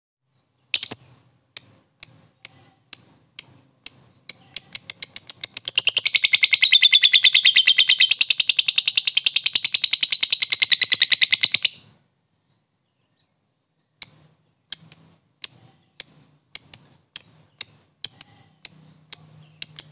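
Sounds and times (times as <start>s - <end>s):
lovebird calling: 0.6s - 11.9s, 14.0s - 19.9s.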